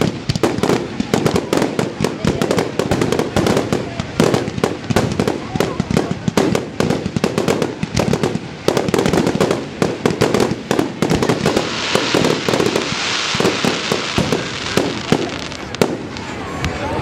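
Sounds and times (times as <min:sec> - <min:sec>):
fireworks bangs and pops: 0:00.0 - 0:17.0
fireworks hissing crackle: 0:00.0 - 0:17.0.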